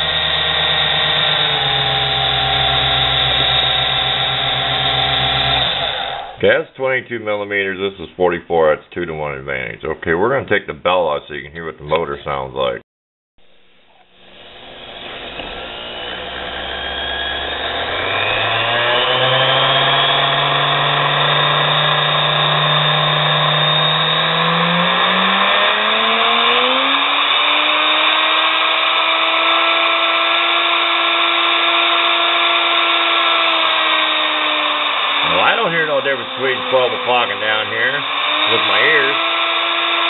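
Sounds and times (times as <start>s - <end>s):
small motor whining: 0.0s - 6.4s, 14.1s - 40.0s.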